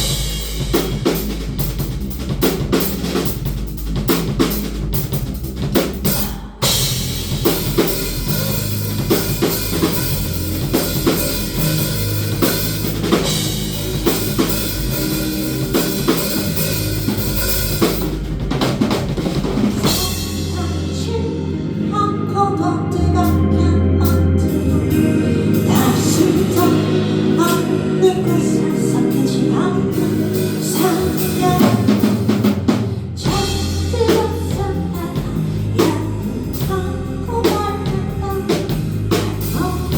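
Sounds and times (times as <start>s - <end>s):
drum kit: 0.0s - 21.4s, 24.0s - 39.9s
bass line: 0.0s - 39.9s.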